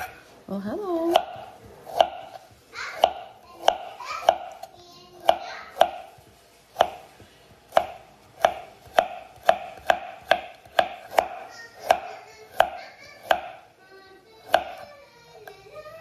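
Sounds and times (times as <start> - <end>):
knife chopping carrots on board: 1.0 - 13.6, 14.4 - 15.6.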